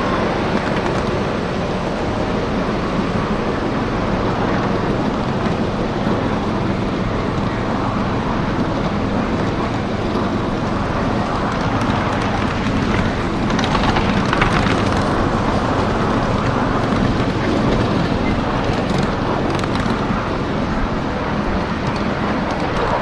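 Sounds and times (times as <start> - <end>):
train wheels rattling on rails: 0.0 - 23.0.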